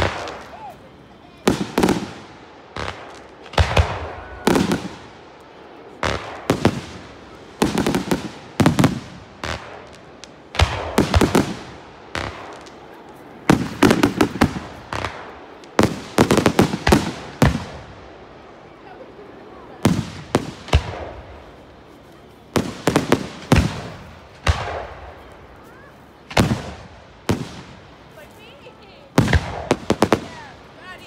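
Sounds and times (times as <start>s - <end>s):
fireworks bursting with echo: 0.0s - 31.0s.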